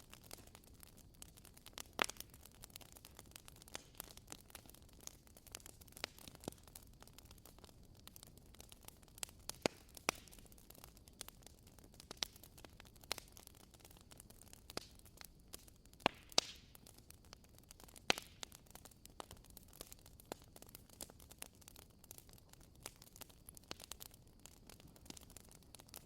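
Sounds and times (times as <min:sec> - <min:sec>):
fire pops: 0:00.0 - 0:26.0
firewood crackling: 0:00.0 - 0:26.0.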